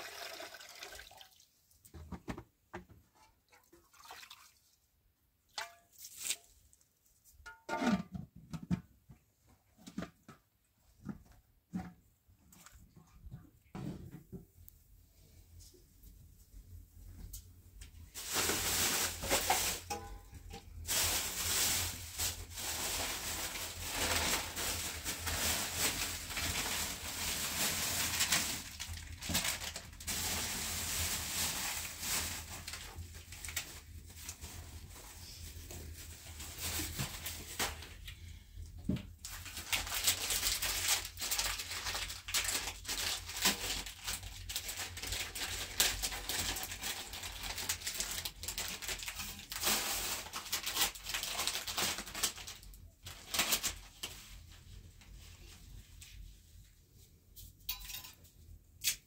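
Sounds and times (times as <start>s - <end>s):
rustling and crinkling: 5.8s - 58.4s.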